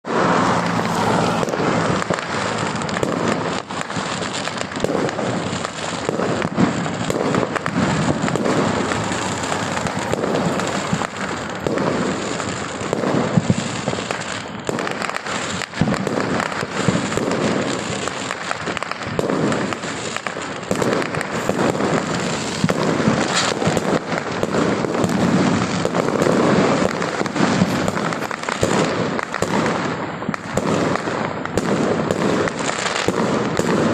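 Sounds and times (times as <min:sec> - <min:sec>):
fireworks bangs: 0:00.0 - 0:33.9.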